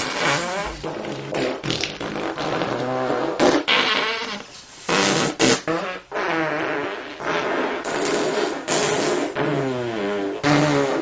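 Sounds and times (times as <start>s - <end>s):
fart sound effect: 0.0s - 11.0s.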